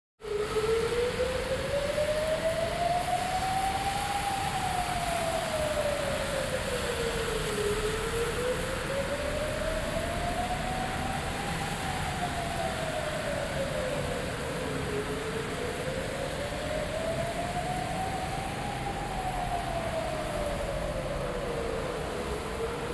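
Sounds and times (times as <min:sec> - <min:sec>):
siren wailing: 0:00.2 - 0:22.9.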